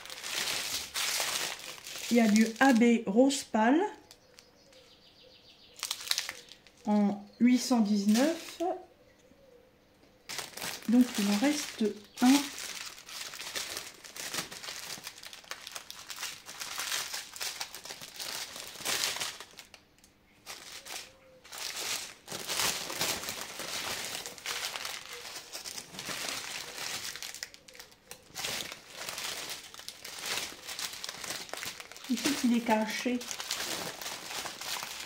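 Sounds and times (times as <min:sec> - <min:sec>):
plastic bag crinkling and rustling: 0:00.0 - 0:04.8, 0:05.7 - 0:08.8, 0:10.3 - 0:19.8, 0:20.4 - 0:35.0.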